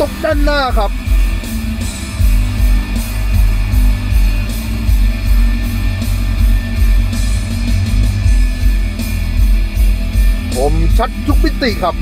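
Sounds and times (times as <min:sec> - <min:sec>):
deep bass pulses: 0:00.0 - 0:12.0
live rock music: 0:00.0 - 0:12.0.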